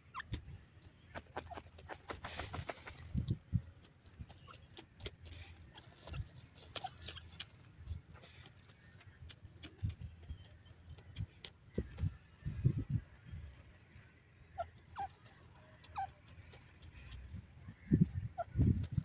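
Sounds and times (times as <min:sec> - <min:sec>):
bird pecking at stony soil: 0:00.1 - 0:19.0.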